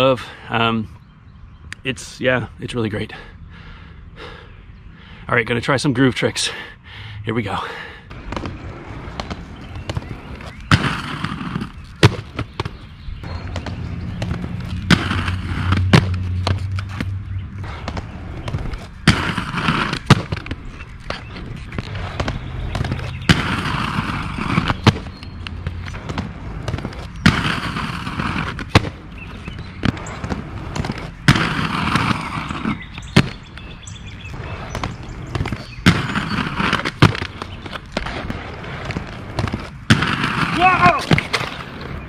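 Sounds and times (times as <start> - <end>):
skate wheels rumbling on concrete: 7.4 - 42.0
skate clacks: 8.2 - 42.0
skates grinding on concrete ledge: 8.2 - 42.0.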